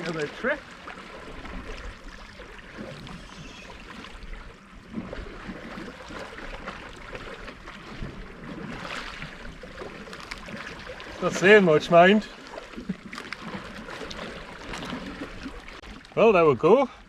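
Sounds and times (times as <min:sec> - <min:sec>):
sea water lapping on rocks: 0:00.0 - 0:16.4.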